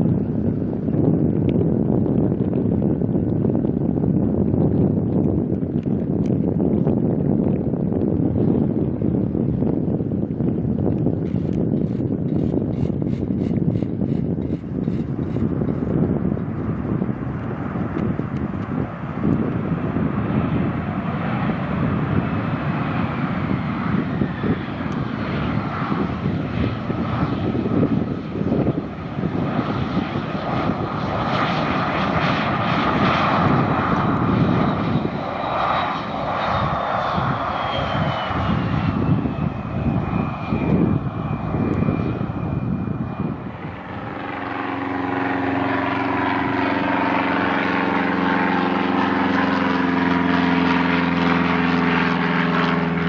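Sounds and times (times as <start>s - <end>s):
jet engines with turbine whine: 0.0s - 53.0s
propeller plane engine humming: 0.0s - 53.0s.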